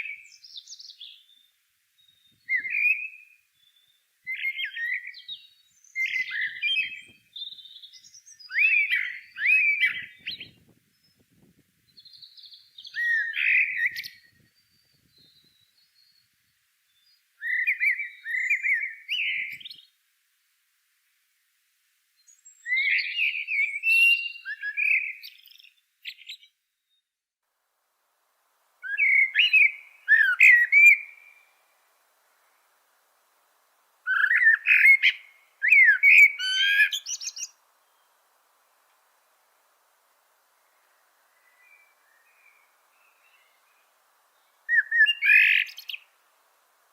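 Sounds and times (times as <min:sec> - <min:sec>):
songbird singing: 0:00.0 - 0:20.6, 0:22.1 - 0:46.9.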